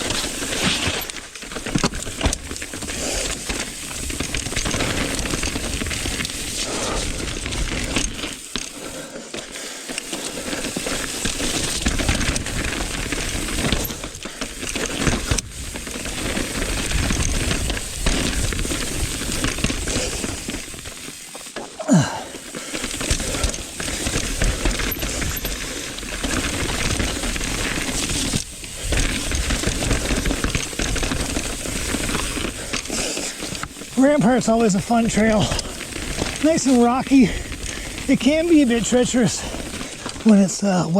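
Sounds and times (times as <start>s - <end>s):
tyre noise: 0.0s - 40.6s
mountain bike rattling over rocks: 0.0s - 40.9s.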